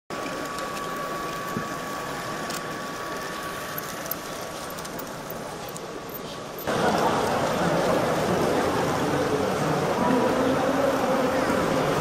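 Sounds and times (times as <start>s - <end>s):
faint steady whine: 0.1s - 12.0s
mechanical hum: 0.1s - 12.0s.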